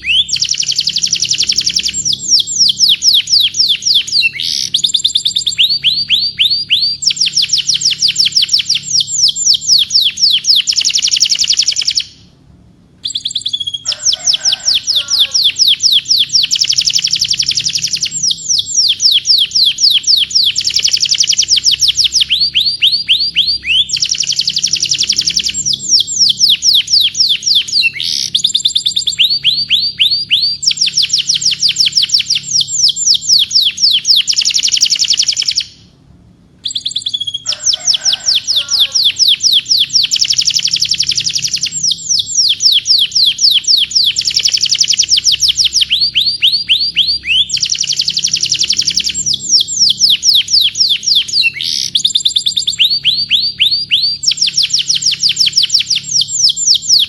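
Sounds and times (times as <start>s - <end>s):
rough bird twittering: 0.0s - 12.3s, 13.0s - 35.9s, 36.6s - 57.0s
canary singing trills: 0.0s - 12.4s, 13.0s - 36.0s, 36.6s - 57.0s.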